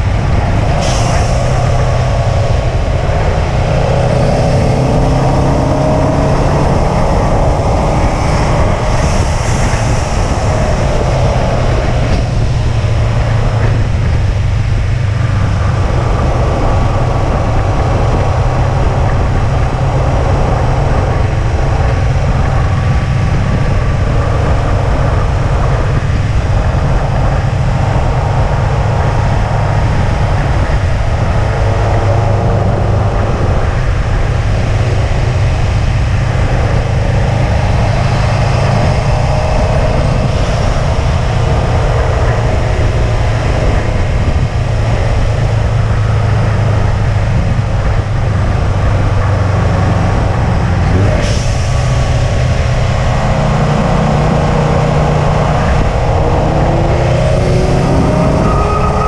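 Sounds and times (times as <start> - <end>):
car engine droning: 0.0 - 59.0
road and wind noise: 0.0 - 59.0.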